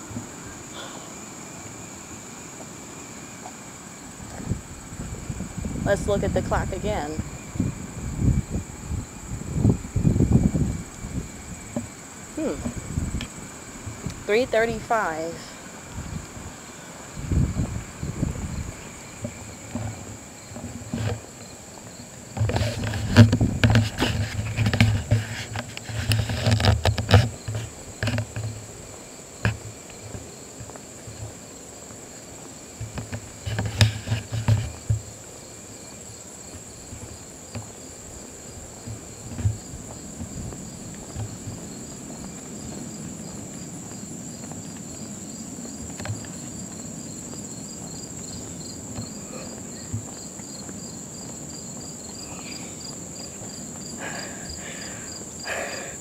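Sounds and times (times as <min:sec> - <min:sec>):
insects buzzing: 0:00.0 - 0:56.0
insects pulsing chirp: 0:00.0 - 0:56.0
wind rumble on microphone: 0:04.0 - 0:31.4, 0:32.6 - 0:55.4.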